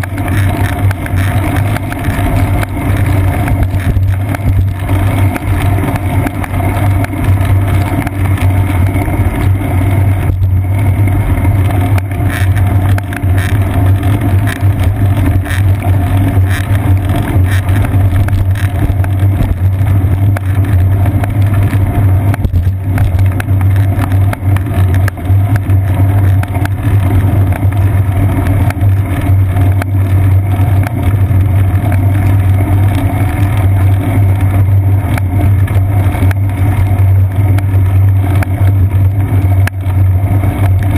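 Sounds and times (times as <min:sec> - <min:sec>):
bicycle rolling on wet pavement: 0:00.0 - 0:40.9
wind: 0:00.0 - 0:40.9.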